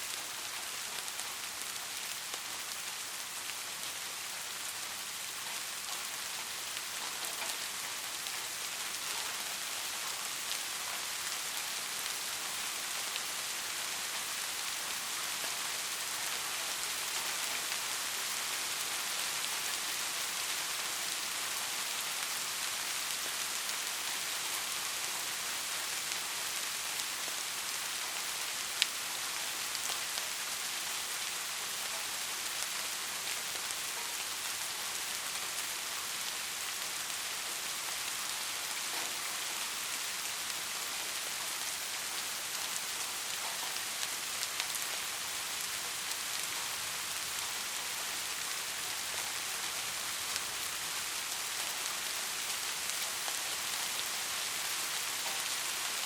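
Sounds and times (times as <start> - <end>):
raindrops ticking on a surface: 0.0 - 56.0
soft rain hiss: 0.0 - 56.0.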